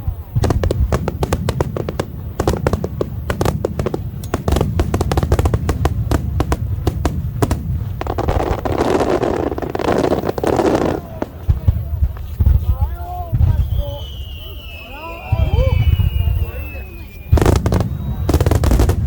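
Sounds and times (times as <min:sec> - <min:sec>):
fireworks cracks and bangs: 0:00.0 - 0:19.0
hissing crackle: 0:00.0 - 0:19.0
booming shells rumble: 0:00.1 - 0:14.7, 0:17.2 - 0:19.0.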